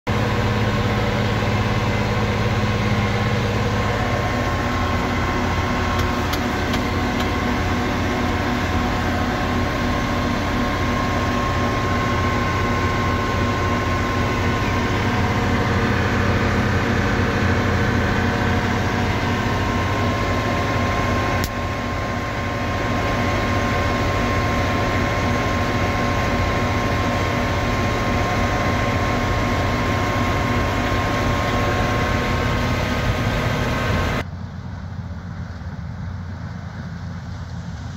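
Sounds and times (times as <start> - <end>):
farm machinery engine drone: 0.0 - 37.9
machinery whining: 0.1 - 34.2.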